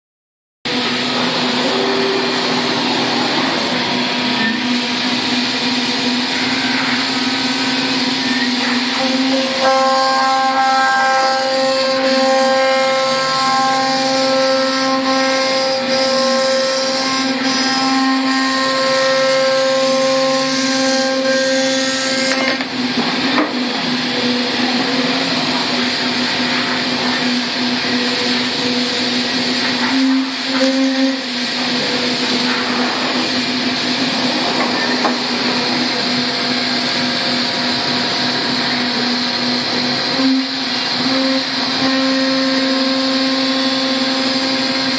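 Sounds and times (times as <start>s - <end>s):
milling machine spindle whine: 0.7s - 44.9s.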